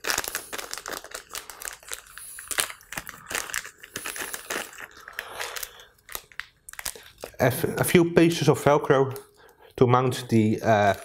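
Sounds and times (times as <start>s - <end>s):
plastic bag crinkling: 0.0s - 9.4s, 10.4s - 11.0s.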